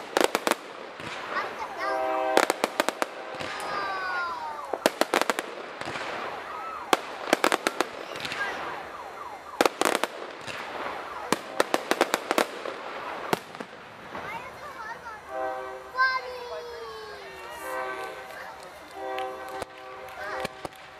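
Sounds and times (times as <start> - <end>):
fireworks cracking and popping: 0.0 - 20.9.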